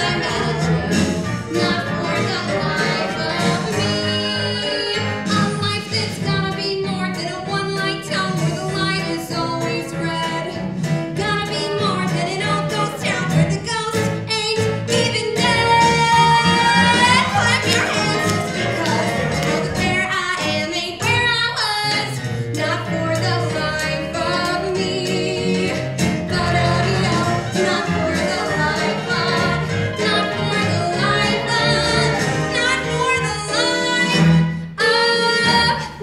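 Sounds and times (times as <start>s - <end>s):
band playing: 0.0s - 36.0s.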